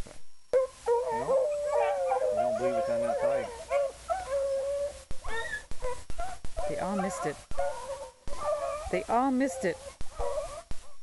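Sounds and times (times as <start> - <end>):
beagles baying and howling: 0.5 - 11.0.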